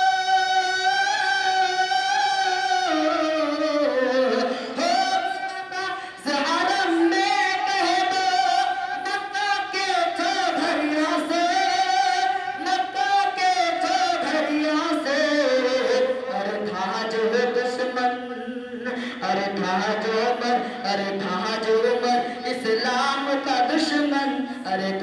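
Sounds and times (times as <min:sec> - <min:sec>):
person singing devotional song: 0:00.0 - 0:25.0.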